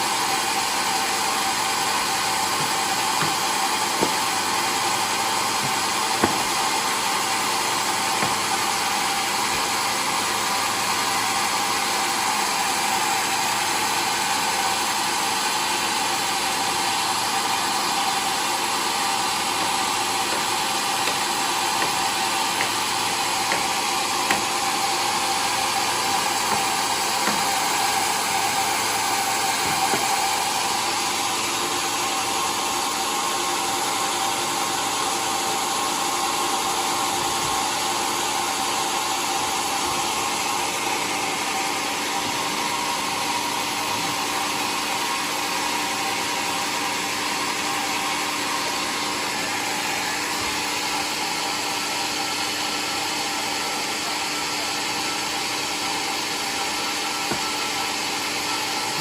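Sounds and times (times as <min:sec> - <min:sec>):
sawmill sawing wood: 0:00.0 - 0:59.0.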